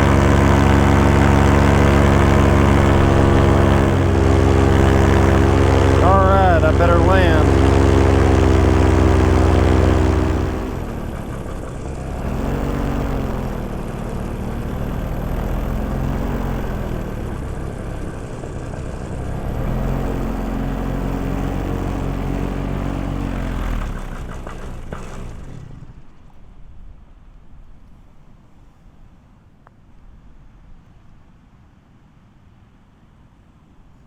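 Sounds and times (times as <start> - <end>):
paramotor engine and propeller: 0.0 - 28.9.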